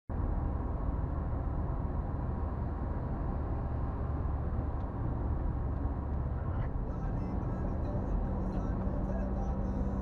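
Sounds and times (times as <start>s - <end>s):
car driving at highway speed: 0.1s - 10.0s.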